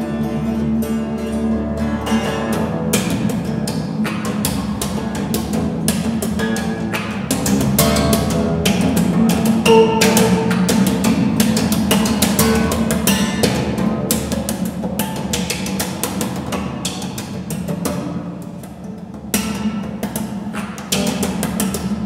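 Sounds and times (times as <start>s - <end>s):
acoustic bass guitar played percussively: 0.0s - 22.0s.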